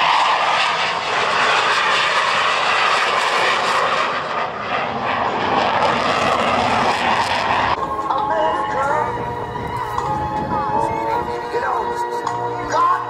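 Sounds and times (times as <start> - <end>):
jet roar: 0.0 - 13.0.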